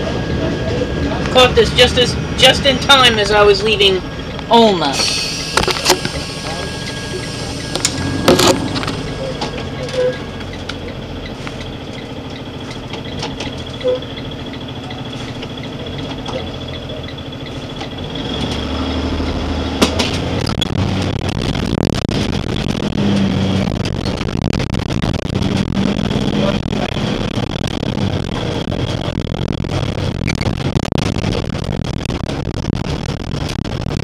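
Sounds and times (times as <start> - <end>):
heavy vehicle engine running: 0.0 - 34.0.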